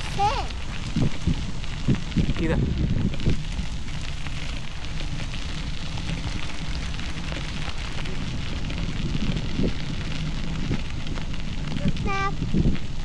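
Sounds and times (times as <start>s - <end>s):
bicycle tyres crunching gravel: 0.0s - 13.0s
wind rumbling on microphone: 0.0s - 13.0s.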